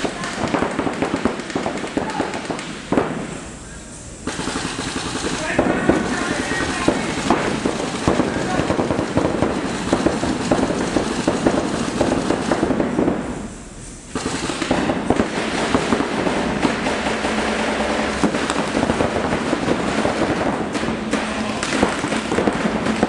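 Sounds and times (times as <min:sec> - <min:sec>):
paintball markers firing: 0:00.0 - 0:03.1, 0:04.3 - 0:13.1, 0:14.2 - 0:23.0.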